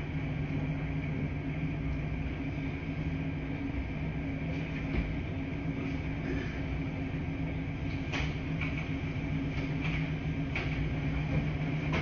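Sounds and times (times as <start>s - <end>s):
laundry machines humming: 0.0s - 12.0s.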